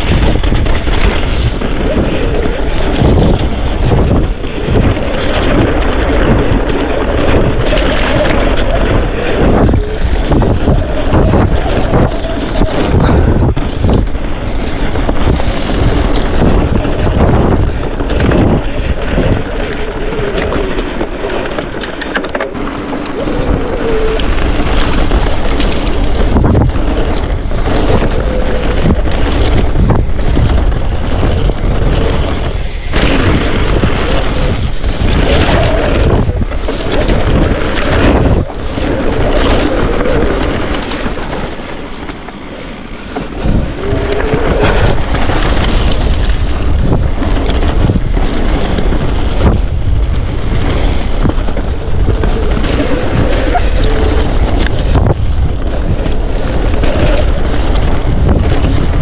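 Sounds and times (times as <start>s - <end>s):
bike rattling on rough ground: 0.0s - 59.0s
bike tyres rumbling: 0.0s - 59.0s
wind buffeting microphone: 0.0s - 59.0s.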